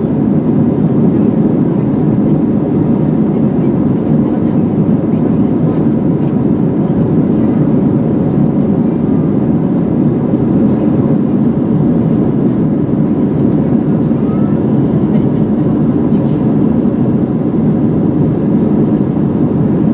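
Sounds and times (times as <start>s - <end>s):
airflow along fuselage: 0.0s - 19.9s
jet engine drone: 0.0s - 19.9s.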